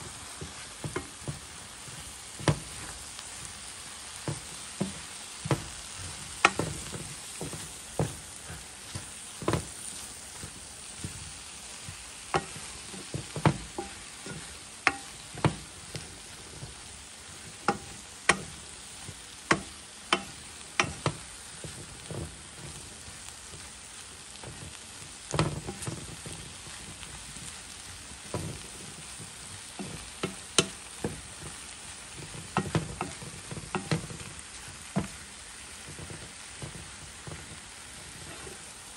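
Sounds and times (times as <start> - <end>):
vegetables sizzling in a pot: 0.0 - 38.9
wooden spatula scraping pan: 0.0 - 38.9.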